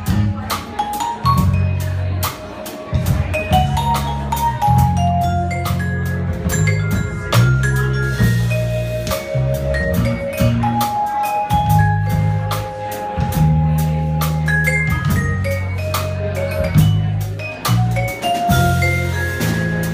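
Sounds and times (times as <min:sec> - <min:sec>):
bass line: 0:00.0 - 0:19.9
drums with cymbal strikes: 0:00.0 - 0:19.9
bright melody notes: 0:00.2 - 0:19.9.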